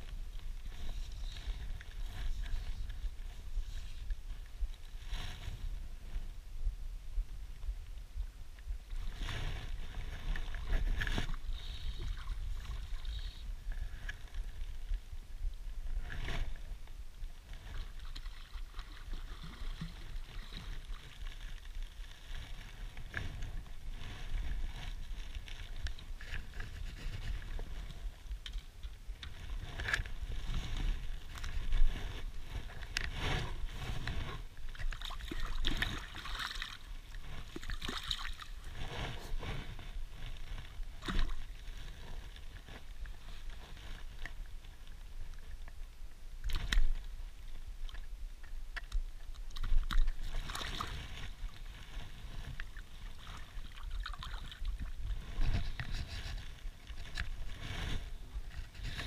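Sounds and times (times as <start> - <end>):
wind rumble on microphone: 0.0 - 59.0
water splashing and sloshing: 8.9 - 45.8, 46.4 - 59.0.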